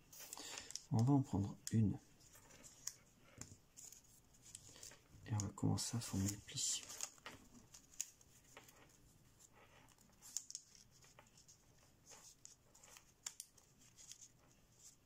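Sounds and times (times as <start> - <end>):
paper rustling and crinkling: 0.0 - 15.0
sharp paper crackles: 0.1 - 15.0.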